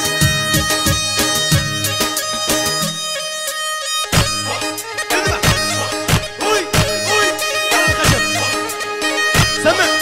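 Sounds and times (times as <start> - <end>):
drum beats: 0.0 - 10.0
reed pipe melody: 0.0 - 10.0.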